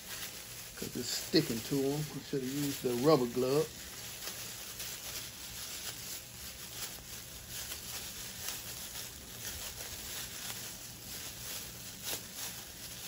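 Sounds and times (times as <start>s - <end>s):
low electrical hum: 0.0s - 13.0s
plastic gloves crinkling: 0.0s - 13.0s.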